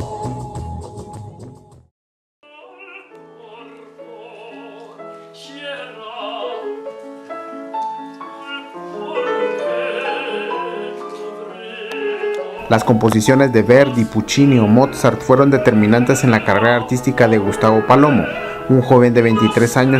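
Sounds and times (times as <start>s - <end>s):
operatic singing: 2.4s - 6.8s, 8.2s - 19.9s
piano accompaniment: 2.5s - 19.9s.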